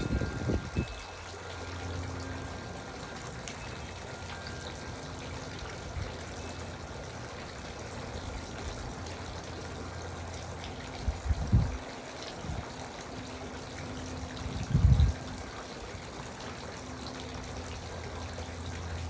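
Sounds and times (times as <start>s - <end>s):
garden fountain trickling: 0.0s - 19.0s.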